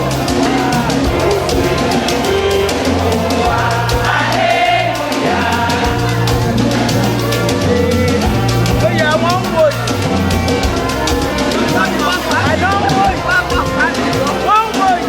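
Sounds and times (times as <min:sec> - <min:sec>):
choir singing gospel: 0:00.0 - 0:15.0
drums keeping a steady beat: 0:00.0 - 0:15.0
instrumental accompaniment: 0:00.0 - 0:15.0.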